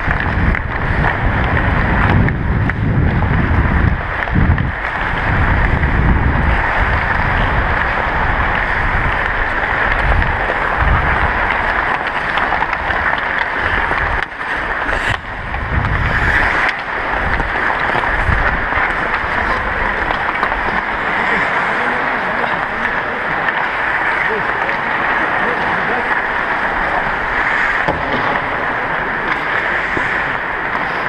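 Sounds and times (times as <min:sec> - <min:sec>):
skate blades cutting ice: 0:00.0 - 0:31.0
wind over microphone: 0:00.0 - 0:31.0.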